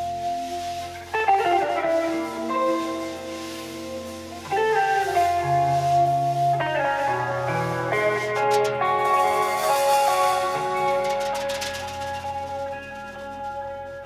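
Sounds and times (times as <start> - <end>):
electric guitar ringing chords: 0.0 - 14.0.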